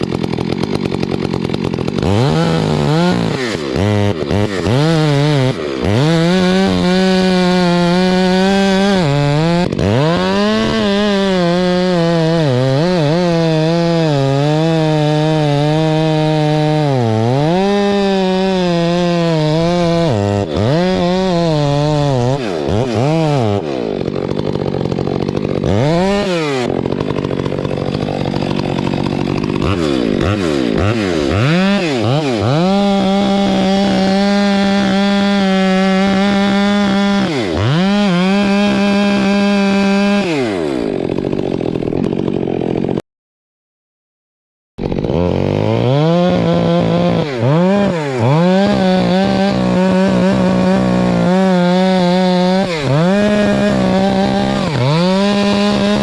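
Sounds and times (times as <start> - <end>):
chainsaw cutting wood: 0.0 - 43.0, 44.8 - 56.0.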